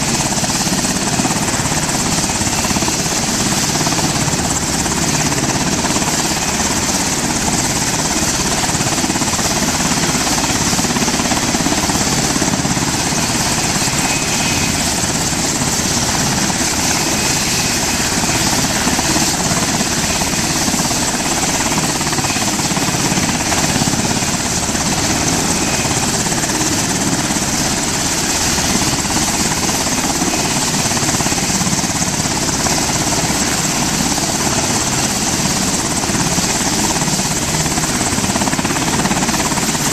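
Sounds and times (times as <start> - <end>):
helicopter turbine hiss and rotor rumble: 0.0 - 39.9.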